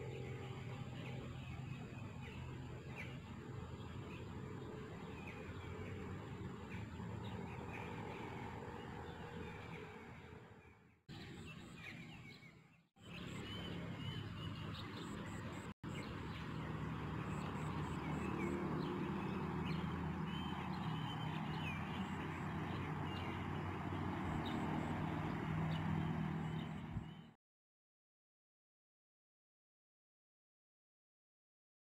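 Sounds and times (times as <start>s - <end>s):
birds chirping: 0.0s - 27.4s.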